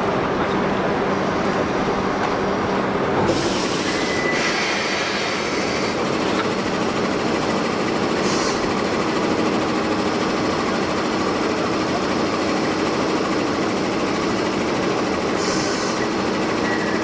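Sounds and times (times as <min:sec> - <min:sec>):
electric locomotive running: 0:00.0 - 0:17.0.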